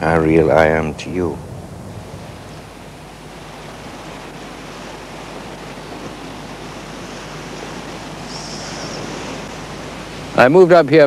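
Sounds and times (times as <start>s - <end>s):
distant surf breaking: 0.0s - 11.0s
wind: 0.0s - 11.0s.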